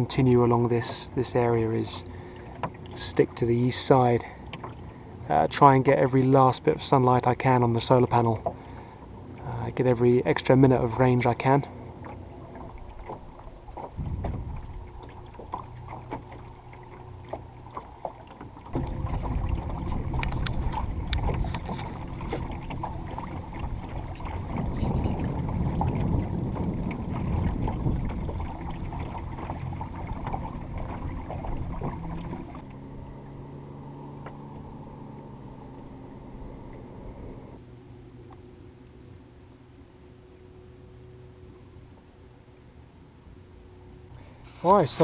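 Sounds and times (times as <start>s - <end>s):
water slapping against hull: 0.0s - 37.6s.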